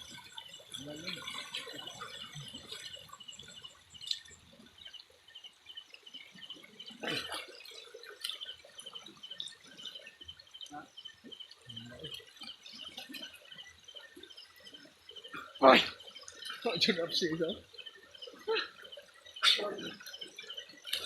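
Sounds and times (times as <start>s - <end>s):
water sloshing and dripping: 0.0s - 21.0s.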